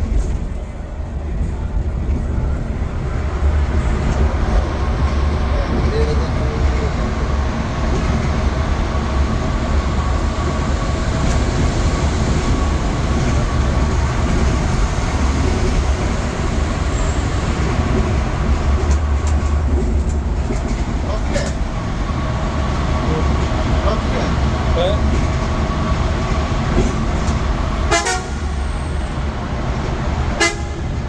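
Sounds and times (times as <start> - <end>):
bus engine and road rumble: 0.0 - 31.0.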